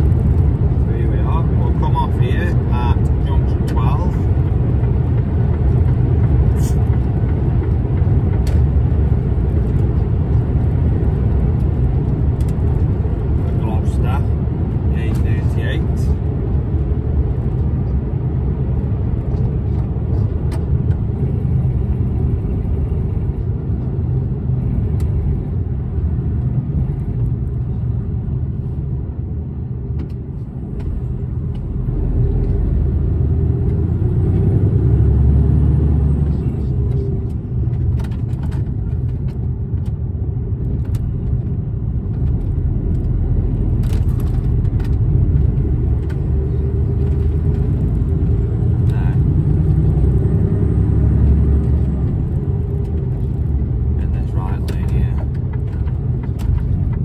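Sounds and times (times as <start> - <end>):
diesel engine rumble: 0.0 - 57.0.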